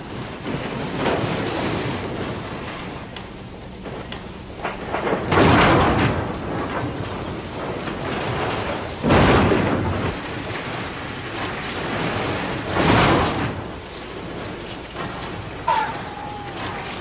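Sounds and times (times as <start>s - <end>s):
heavy crashes: 0.0s - 17.0s
railway carriage crashing: 0.0s - 17.0s.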